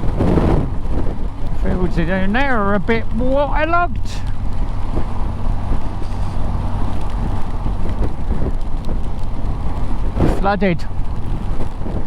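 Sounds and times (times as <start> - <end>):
motorcycle engine hum: 0.0 - 12.0
wind and road noise: 0.0 - 12.0.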